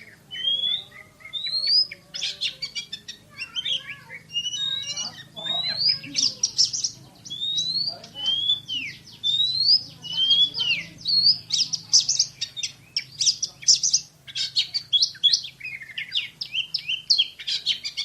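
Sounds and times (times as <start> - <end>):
songbird singing fast song: 0.0 - 18.0.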